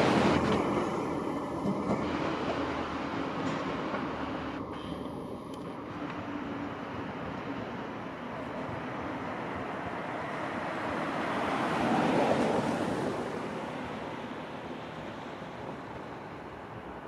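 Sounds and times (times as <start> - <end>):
electric train wheels on rails: 0.0 - 17.0.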